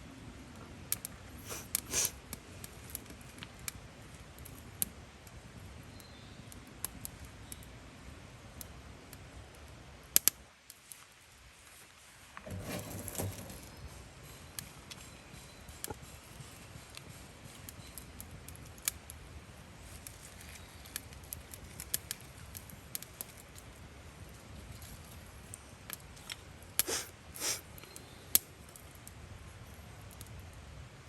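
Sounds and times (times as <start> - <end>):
campfire crackling and popping: 0.3 - 11.6, 12.3 - 30.7.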